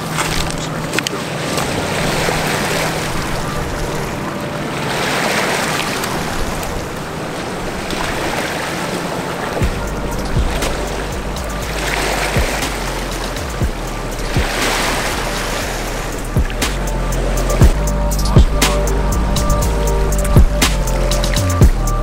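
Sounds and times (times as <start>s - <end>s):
water washing at riverbank: 0.0s - 21.7s
wind on microphone: 0.0s - 22.0s.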